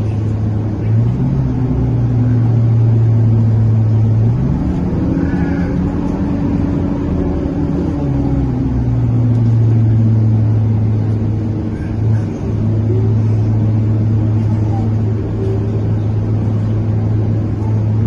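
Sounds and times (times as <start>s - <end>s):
bus diesel engine drone: 0.0s - 18.0s
deeper hum: 0.0s - 18.0s
humming tone: 0.0s - 18.0s
loud radiator cooling fan: 0.0s - 18.0s.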